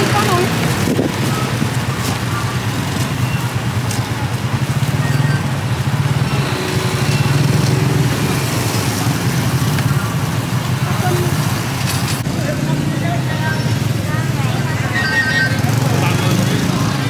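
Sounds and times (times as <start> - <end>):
faint voices: 0.0 - 17.0
motorbike engines running: 0.0 - 17.0
street traffic noise: 0.0 - 17.0.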